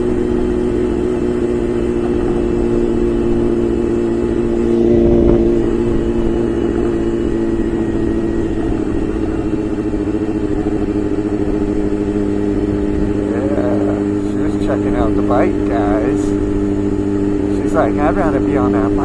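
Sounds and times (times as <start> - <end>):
wind rumble on microphone: 0.0 - 17.6
motorcycle engine running: 0.0 - 19.0.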